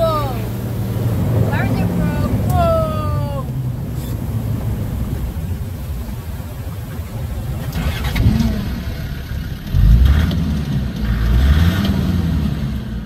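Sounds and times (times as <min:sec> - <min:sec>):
engine revving under load: 0:00.0 - 0:13.0
water splashing: 0:00.0 - 0:13.0.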